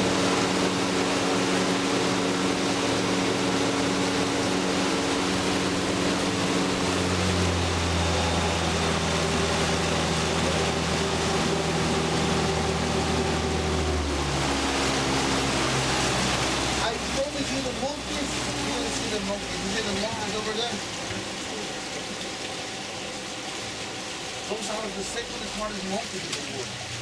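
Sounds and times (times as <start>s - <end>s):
boat motor running: 0.0s - 27.0s
wind and water hiss: 0.0s - 27.0s.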